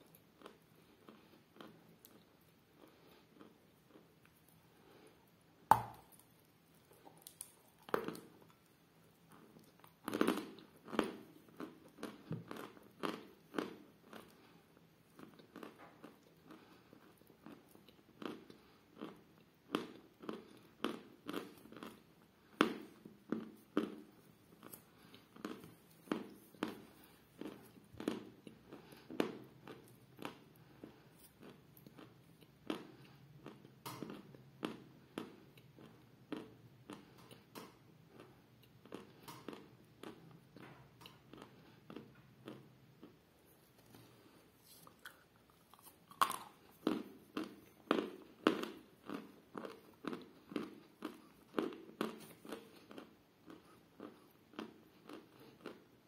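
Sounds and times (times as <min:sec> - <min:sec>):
crunchy chewing: 0:05.9 - 0:37.5, 0:38.1 - 0:56.0.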